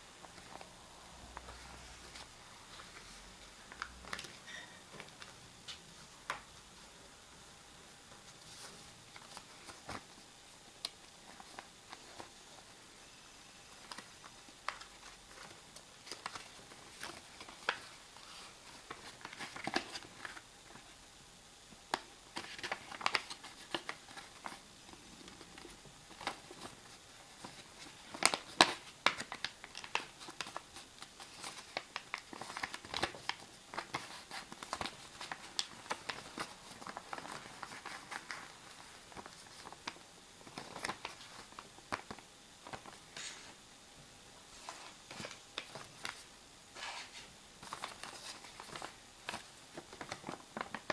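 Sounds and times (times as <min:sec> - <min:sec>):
paper folding and crinkling: 0:00.0 - 0:07.0, 0:08.1 - 0:12.8, 0:13.7 - 0:21.0, 0:21.9 - 0:43.6, 0:44.5 - 0:50.9.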